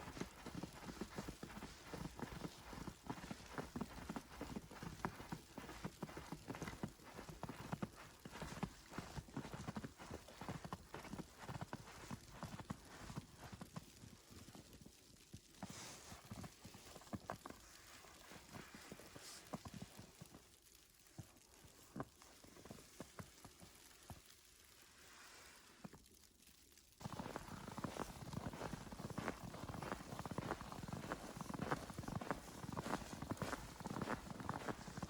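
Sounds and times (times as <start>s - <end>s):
footsteps crunching through snow: 0.0s - 20.4s, 27.0s - 35.0s.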